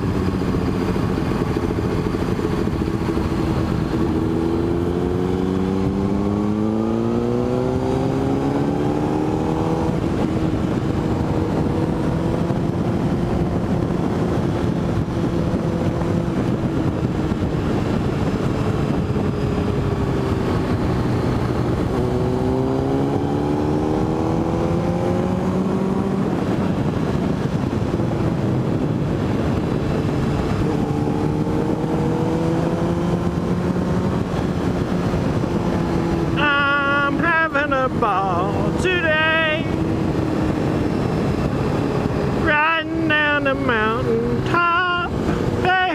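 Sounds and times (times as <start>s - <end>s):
motorcycle engine accelerating: 0.0s - 45.9s
wind noise: 0.0s - 45.9s.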